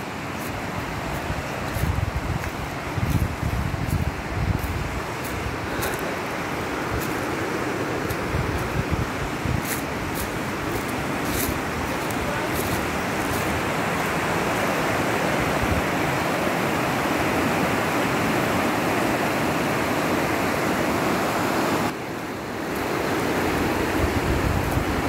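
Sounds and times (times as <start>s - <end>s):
creek rushing over rocks: 0.0s - 25.0s.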